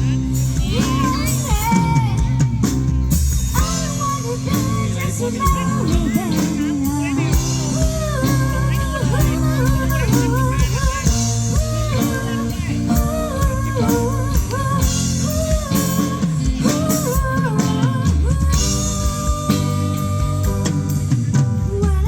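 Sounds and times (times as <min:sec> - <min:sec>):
live band playing pop ballad: 0:00.0 - 0:22.0.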